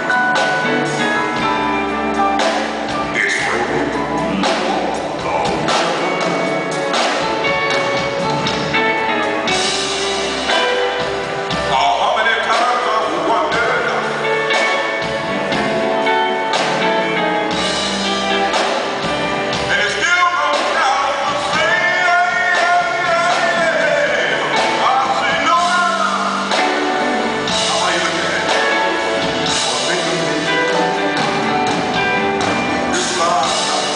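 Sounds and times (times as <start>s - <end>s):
drums: 0.0s - 33.9s
electric jazz guitar melody: 0.0s - 33.9s
keyboards: 0.0s - 33.9s.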